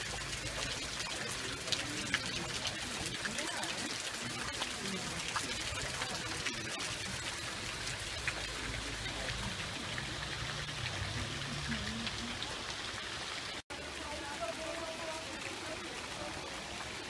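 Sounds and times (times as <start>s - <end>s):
water rushing down stone cascade: 0.0s - 17.0s.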